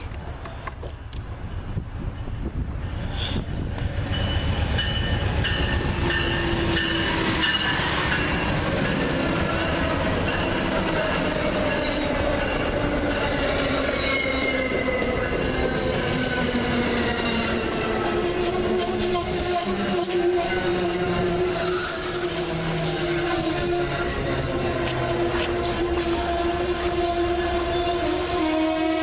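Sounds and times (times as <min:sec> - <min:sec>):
train cars rolling past: 0:00.0 - 0:28.7.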